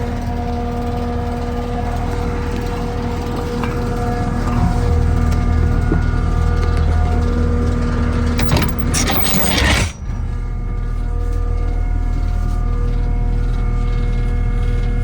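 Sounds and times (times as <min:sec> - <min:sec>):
diesel loader engine running: 0:00.0 - 0:15.0.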